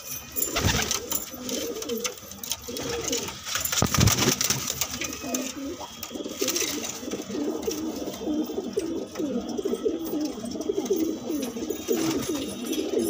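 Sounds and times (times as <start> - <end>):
pigeons cooing: 0.4 - 13.0.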